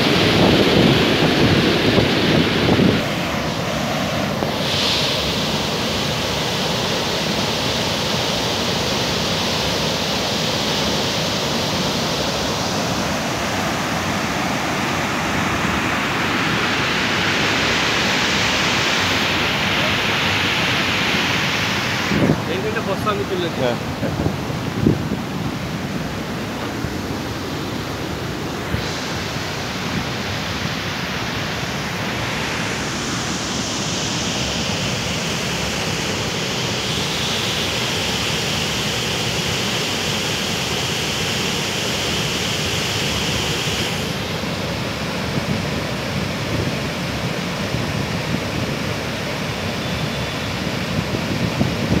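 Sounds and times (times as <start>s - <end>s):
water rushing through sluice gates: 0.0s - 52.0s.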